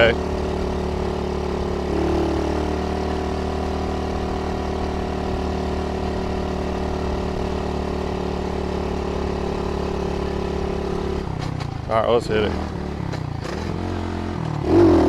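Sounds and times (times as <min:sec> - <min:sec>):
motorbike engine idling: 0:00.0 - 0:15.0.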